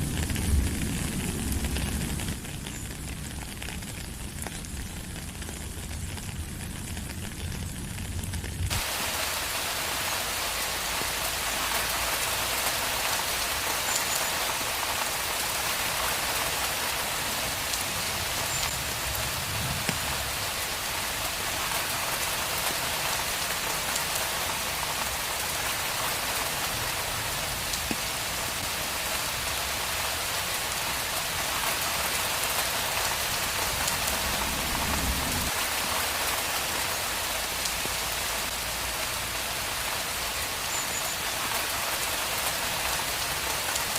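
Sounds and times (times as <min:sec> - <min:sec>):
rain on pavement: 0:00.0 - 0:43.9.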